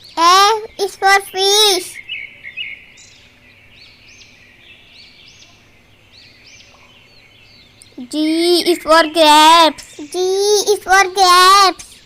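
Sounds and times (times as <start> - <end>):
faint bird chirps: 0.0 - 12.0
soft background hiss: 0.0 - 12.0.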